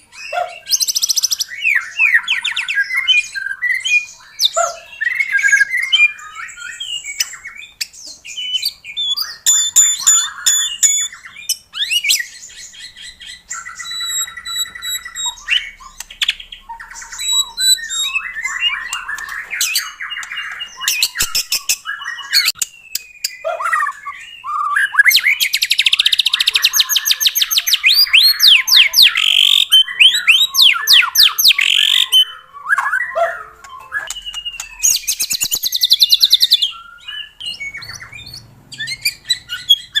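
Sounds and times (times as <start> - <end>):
bird singing whistles and trills: 0.0 - 40.0.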